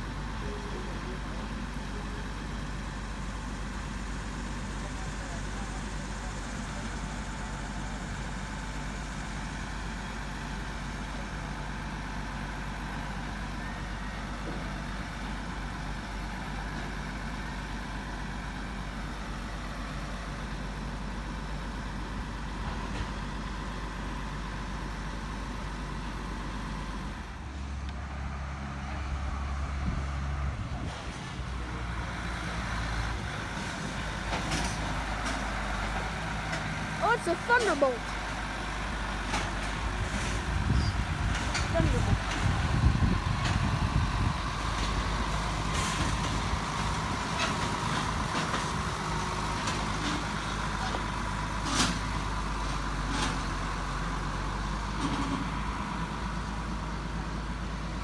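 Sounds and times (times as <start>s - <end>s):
truck engine rumbling: 0.0s - 58.0s.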